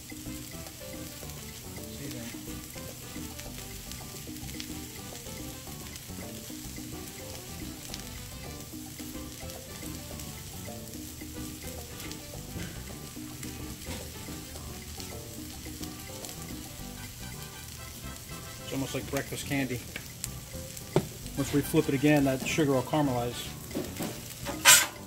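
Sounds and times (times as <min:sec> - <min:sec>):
food sizzling on griddle: 0:00.0 - 0:25.0.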